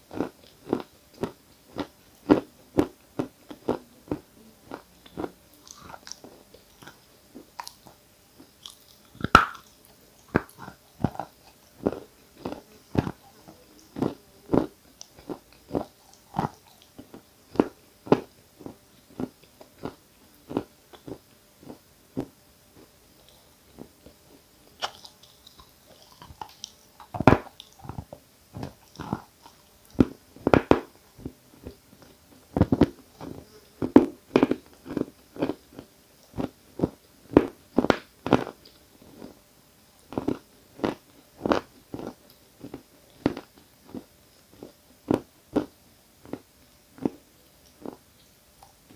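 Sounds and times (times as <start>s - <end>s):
chalk crunching when chewed: 0.1s - 39.4s, 40.0s - 48.9s.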